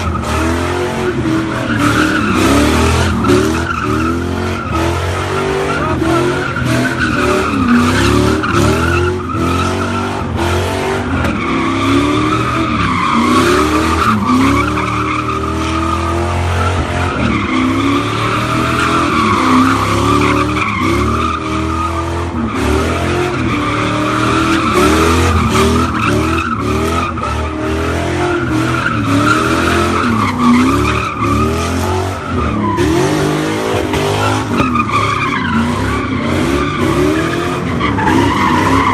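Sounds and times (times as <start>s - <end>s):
car engine revving: 0.0s - 38.9s
tires squealing on pavement: 0.0s - 38.9s.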